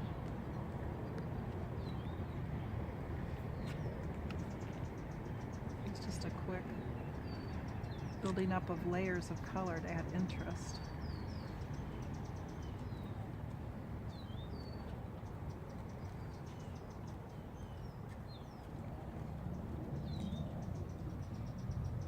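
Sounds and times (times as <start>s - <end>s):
small birds chirping: 3.5s - 13.3s, 14.1s - 22.0s.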